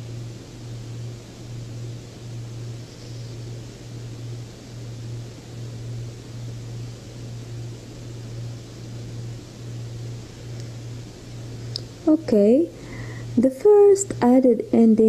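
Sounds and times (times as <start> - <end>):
faint hiss: 0.0 - 14.2
low machine hum: 0.0 - 15.0.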